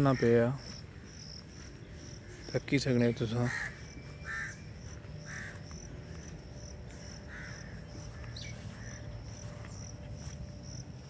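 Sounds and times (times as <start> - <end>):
bird calling: 0.0 - 10.2
insect chirping: 0.0 - 11.0.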